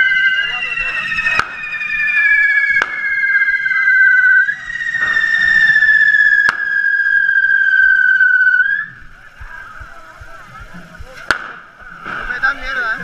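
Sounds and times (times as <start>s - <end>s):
fireworks hissing and whistling: 0.0s - 13.0s
firecracker bangs: 0.4s - 9.5s, 10.6s - 13.0s.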